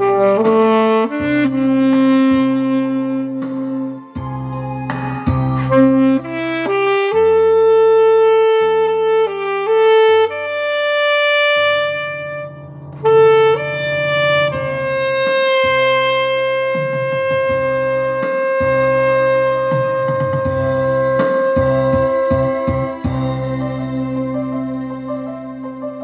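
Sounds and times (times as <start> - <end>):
alto saxophone melody: 0.0 - 26.0
backing accompaniment: 0.0 - 26.0.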